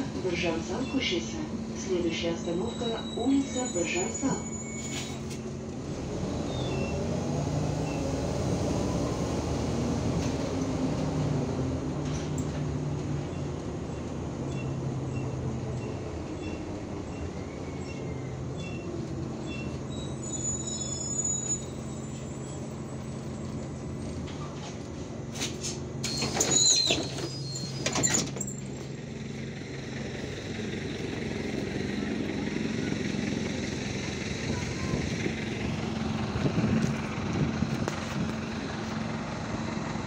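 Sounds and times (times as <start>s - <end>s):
bus engine hum and whine: 0.0s - 40.0s.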